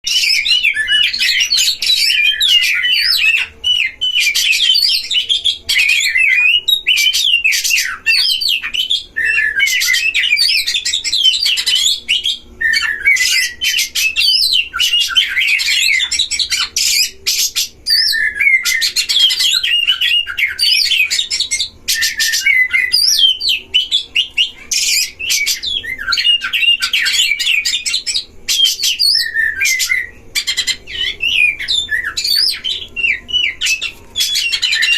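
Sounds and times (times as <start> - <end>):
bird whistling and chattering: 0.1 - 34.9.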